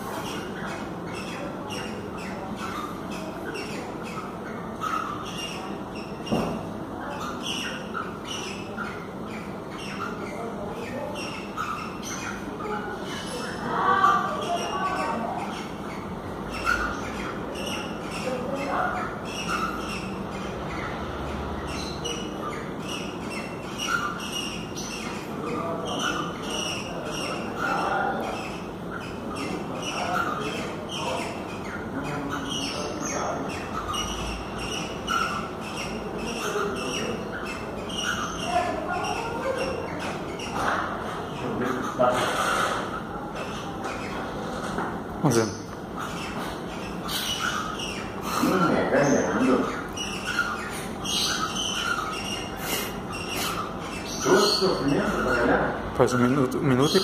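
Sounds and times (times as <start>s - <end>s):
cockatiels squawking chirps: 0.0s - 56.2s.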